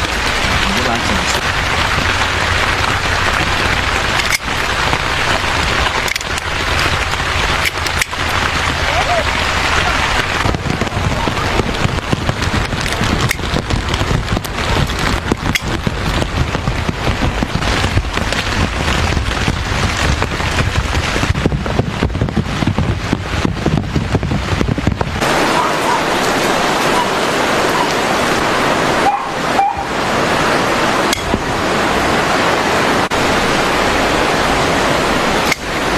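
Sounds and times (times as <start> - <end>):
rain drizzling: 0.0 - 35.9.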